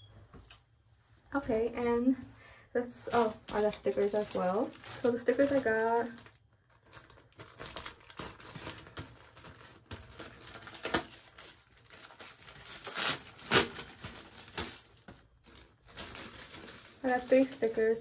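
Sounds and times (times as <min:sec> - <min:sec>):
packaging crinkling and rustling: 0:03.0 - 0:18.0.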